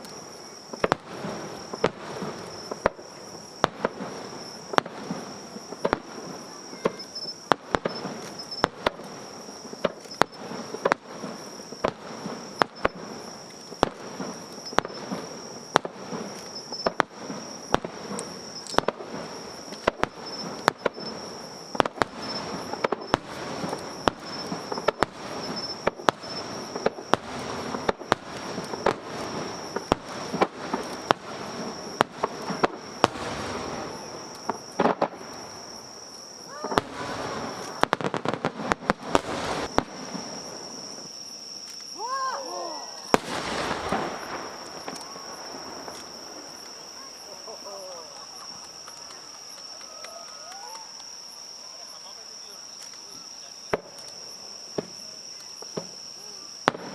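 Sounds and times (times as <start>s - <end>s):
fireworks bangs: 0.0s - 56.9s
fireworks crackling and rumbling: 0.0s - 56.9s.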